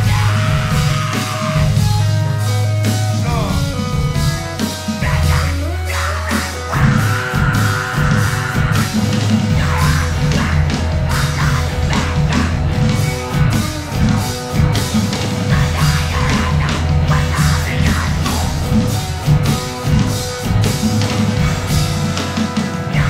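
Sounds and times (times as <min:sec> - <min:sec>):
metal band playing loudly: 0:00.0 - 0:23.0.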